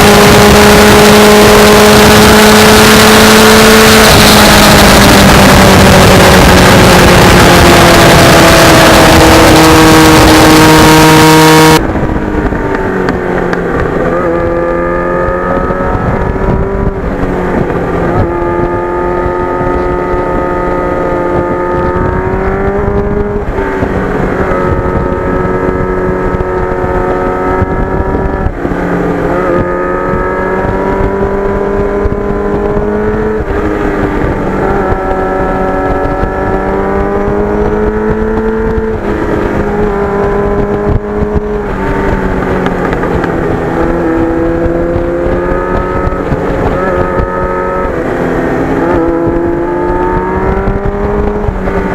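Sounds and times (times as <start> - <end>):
motorcycle engine accelerating: 0.0 - 51.9
wind rushing over microphone: 0.0 - 51.9.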